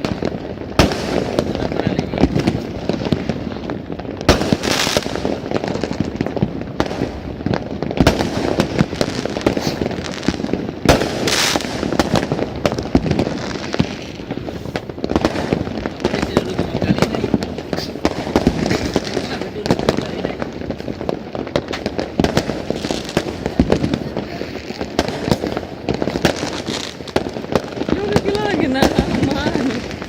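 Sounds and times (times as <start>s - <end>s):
crackling hiss: 0.0s - 30.0s
fireworks crackle: 0.0s - 30.0s
loud fireworks booms: 0.0s - 30.0s.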